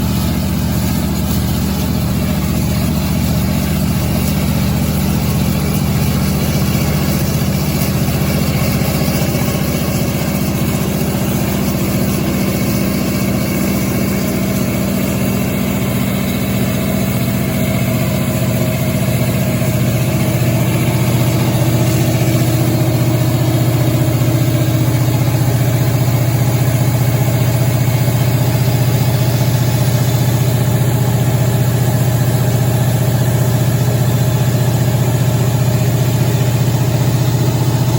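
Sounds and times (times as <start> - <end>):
diesel generator engine drone: 0.0 - 37.9.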